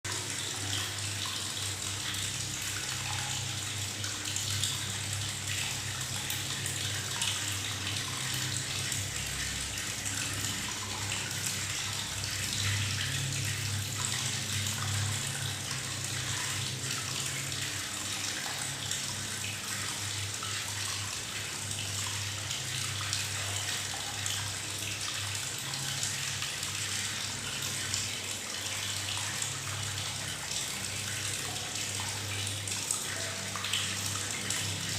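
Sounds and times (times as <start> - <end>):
tap water running into bathtub: 0.0 - 34.9.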